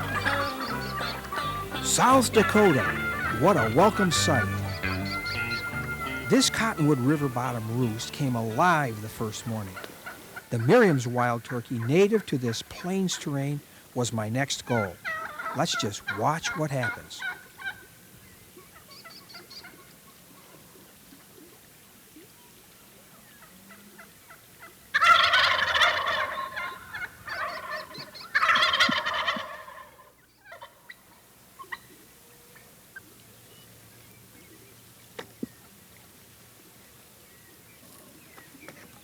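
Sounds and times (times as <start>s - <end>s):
turkeys gobbling loudly: 0.0s - 22.3s, 22.9s - 34.8s.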